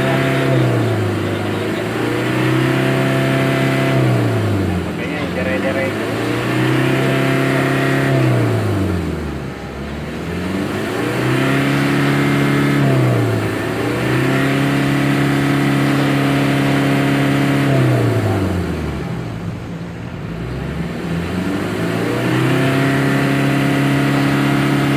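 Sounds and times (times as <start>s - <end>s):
diesel engine revving: 0.0s - 24.9s.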